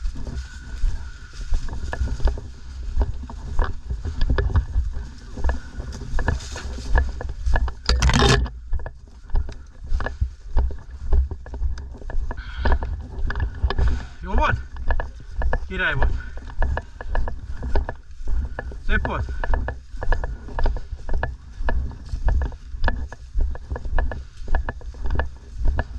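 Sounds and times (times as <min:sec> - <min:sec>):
footsteps with rattling gear: 0:00.0 - 0:25.9.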